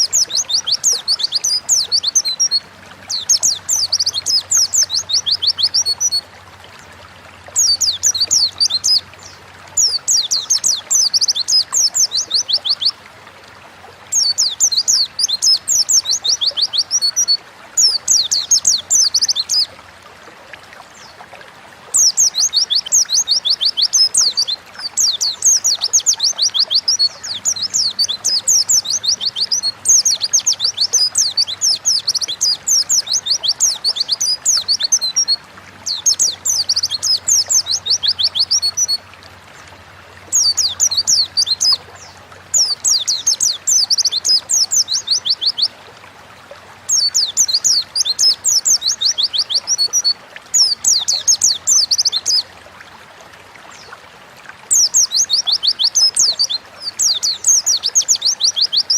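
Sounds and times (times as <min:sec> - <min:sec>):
white-eye bird twittering song: 0:00.0 - 0:06.3, 0:07.2 - 0:13.0, 0:14.1 - 0:19.8, 0:21.9 - 0:39.0, 0:39.6 - 0:45.8, 0:46.8 - 0:52.5, 0:54.7 - 0:58.9.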